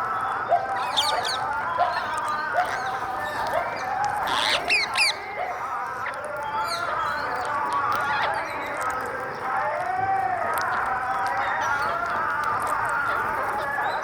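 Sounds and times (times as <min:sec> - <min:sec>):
parrots squawking and chattering: 0:00.0 - 0:09.6, 0:10.5 - 0:14.0.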